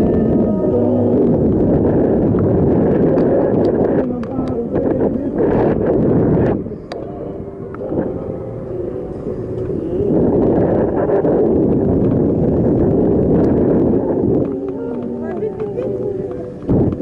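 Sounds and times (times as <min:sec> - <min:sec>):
people's voices: 0:00.0 - 0:17.0
wind on microphone: 0:00.0 - 0:17.0.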